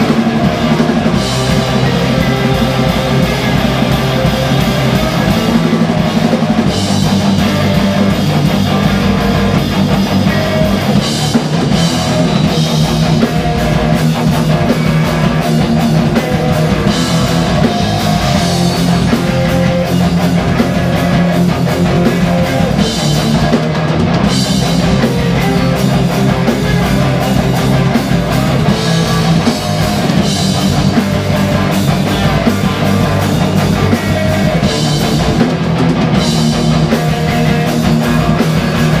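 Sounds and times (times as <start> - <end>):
live rock band playing: 0.0 - 39.0.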